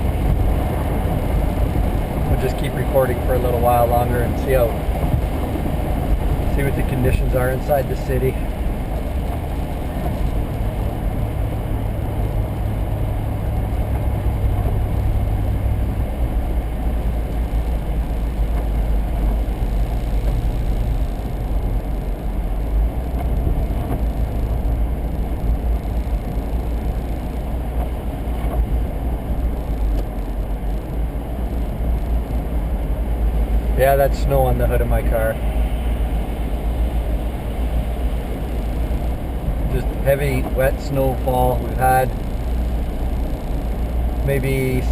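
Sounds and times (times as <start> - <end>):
car cabin road and engine noise: 0.0 - 44.9
low hum: 0.0 - 44.9.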